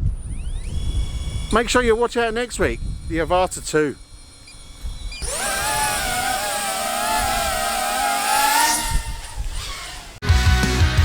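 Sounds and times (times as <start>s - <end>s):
model airplane motor running: 0.0s - 10.2s.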